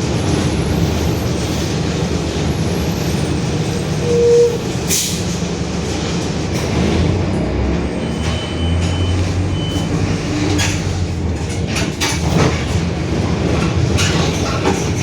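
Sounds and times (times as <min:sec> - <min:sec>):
bus body rattling: 0:00.0 - 0:15.0
bus engine low hum: 0:00.0 - 0:15.0.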